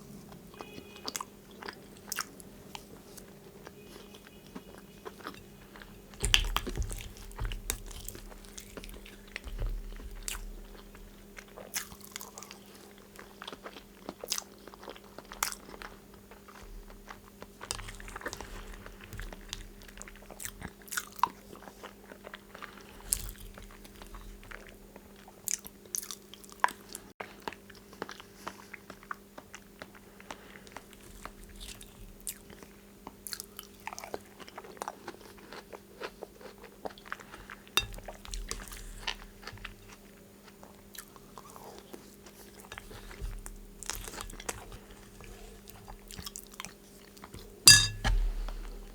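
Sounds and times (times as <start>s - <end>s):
chewing and biting food: 0.3s - 47.4s.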